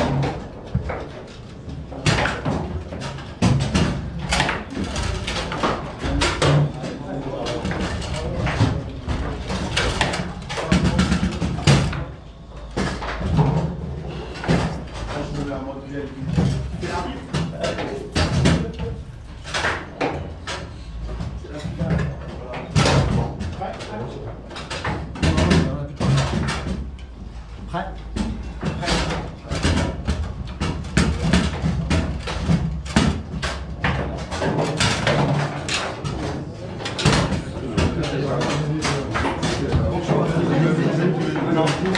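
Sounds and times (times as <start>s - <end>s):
foosball players striking ball: 0.0s - 41.9s.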